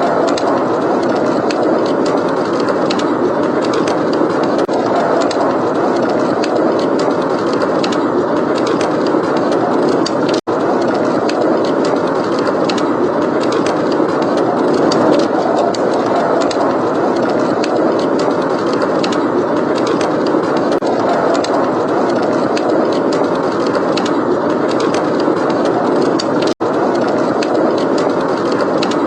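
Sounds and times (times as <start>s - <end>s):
blizzard wind rushing: 0.0s - 29.0s
wood fire crackling: 0.0s - 29.0s.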